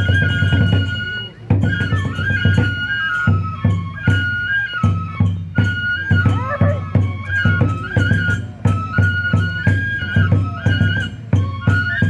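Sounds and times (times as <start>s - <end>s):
bamboo flute melody: 0.0s - 12.0s
taiko drum beats: 0.0s - 12.0s.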